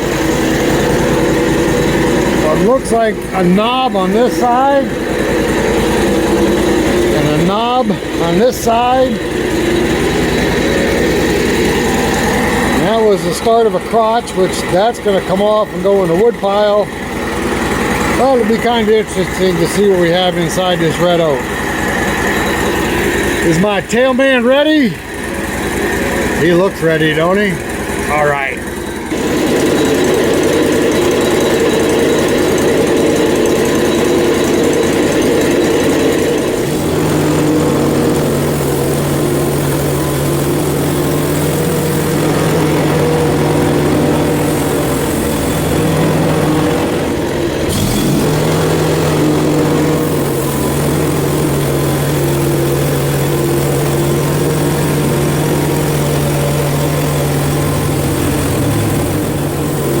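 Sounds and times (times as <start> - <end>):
bandsaw mill engine running: 0.0 - 60.0.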